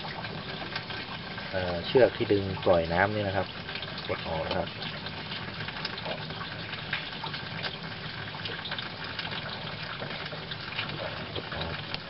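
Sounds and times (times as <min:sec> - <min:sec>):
water running through washing machine: 0:00.0 - 0:12.0.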